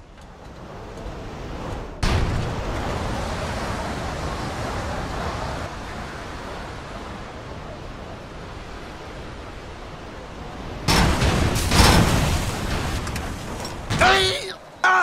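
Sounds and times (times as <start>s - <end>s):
steady rushing noise: 0.0s - 14.8s.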